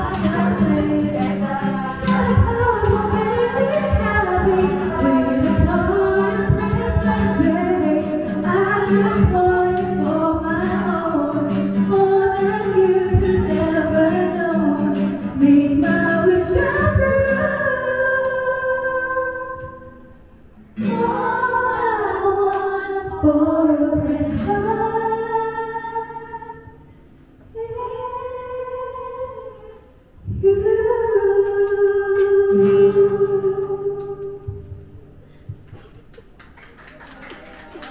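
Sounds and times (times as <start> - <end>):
woman singing slow song: 0.0 - 20.2, 20.8 - 35.2
acoustic guitar: 0.0 - 36.6.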